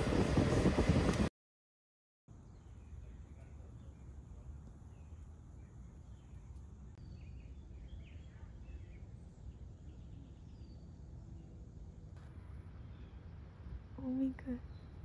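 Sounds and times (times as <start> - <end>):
low steady rumble: 0.0 - 1.3, 2.3 - 15.0.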